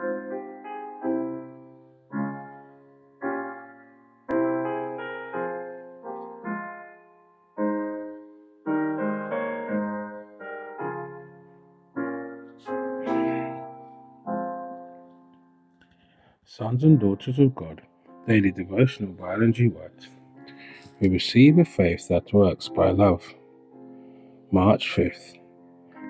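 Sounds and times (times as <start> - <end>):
slow piano chords: 0.0 - 26.0.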